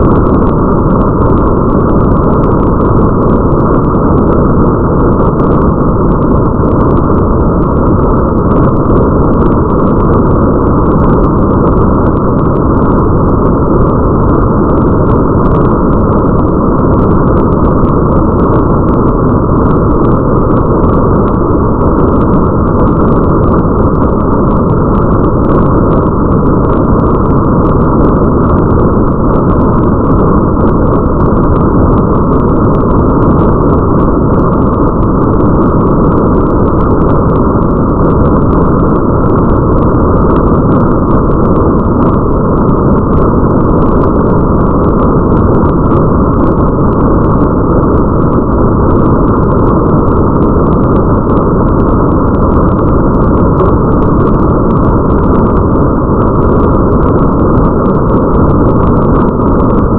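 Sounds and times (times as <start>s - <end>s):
muffled rain with deep rumble: 0.0s - 59.9s
rain drops ticking: 0.0s - 59.9s.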